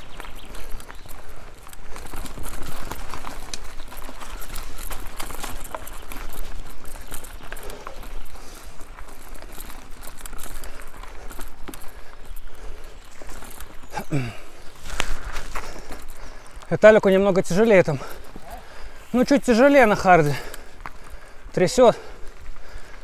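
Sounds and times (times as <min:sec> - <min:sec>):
bike tyres crackling over twigs: 0:00.0 - 0:23.0.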